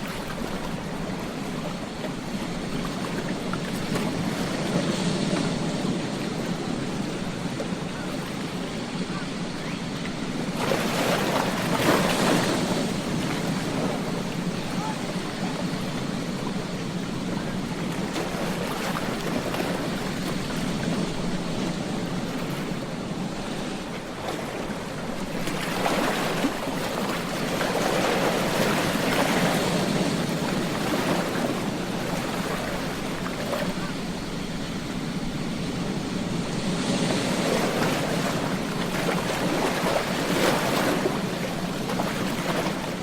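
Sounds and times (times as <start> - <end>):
ocean waves washing onto beach: 0.0 - 43.0.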